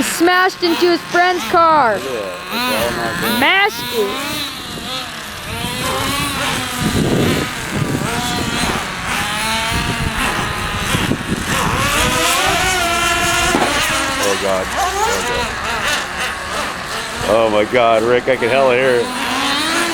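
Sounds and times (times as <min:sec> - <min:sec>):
model car engines revving: 0:00.0 - 0:19.9.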